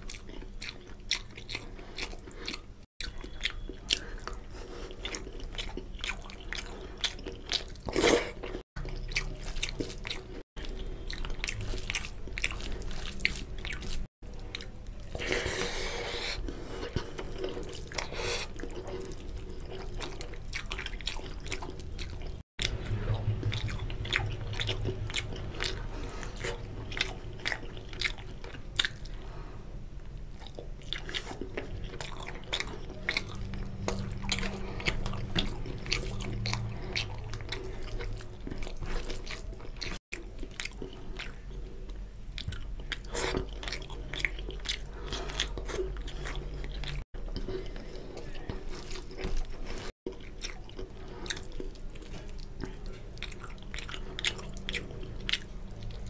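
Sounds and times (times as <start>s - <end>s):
wet chewing and lip-smacking: 0.0s - 29.5s, 30.1s - 56.0s.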